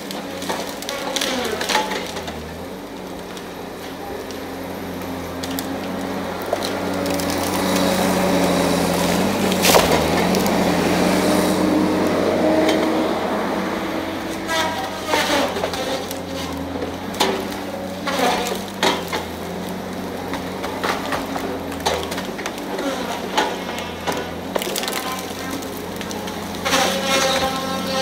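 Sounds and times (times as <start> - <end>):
heavy machine running: 0.0 - 28.0
wood cracking and splintering: 0.0 - 28.0.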